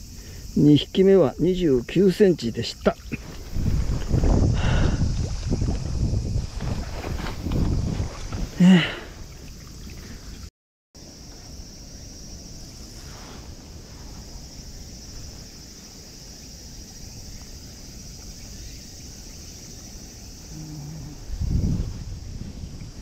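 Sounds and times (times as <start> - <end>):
high insect chirring: 0.0 - 10.4, 11.0 - 23.0.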